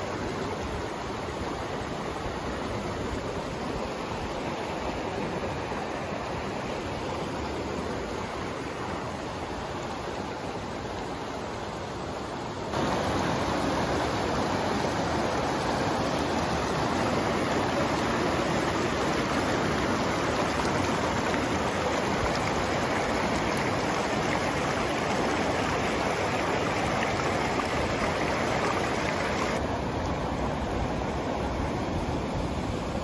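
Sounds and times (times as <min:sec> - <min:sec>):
river rushing over boulders: 0:00.0 - 0:33.0.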